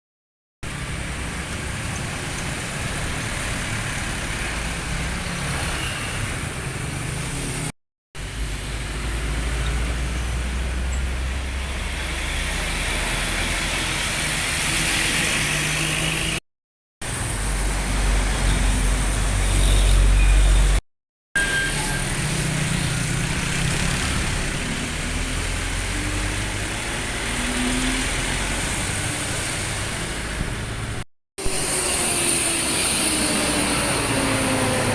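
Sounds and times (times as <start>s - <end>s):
buses and traffic passing: 0.6s - 16.4s, 17.0s - 20.8s, 21.4s - 34.9s.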